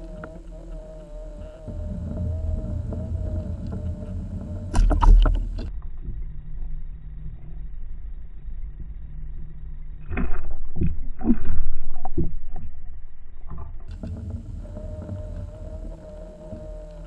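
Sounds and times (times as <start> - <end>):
low underwater rumble: 0.0 - 17.0
steady humming tone: 0.0 - 17.0.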